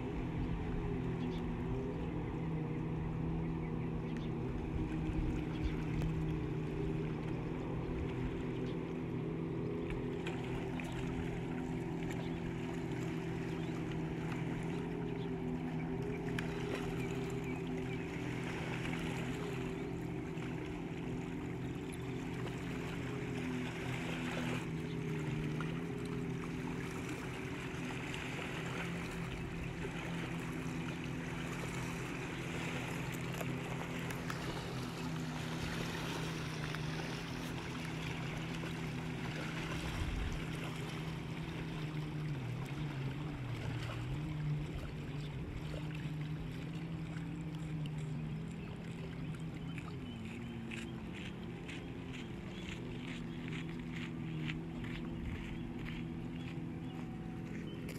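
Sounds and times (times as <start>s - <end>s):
motor hum: 0.0s - 57.9s.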